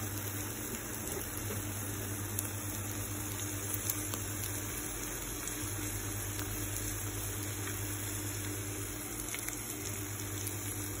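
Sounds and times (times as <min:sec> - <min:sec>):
food sizzling and bubbling in pan: 0:00.0 - 0:11.0.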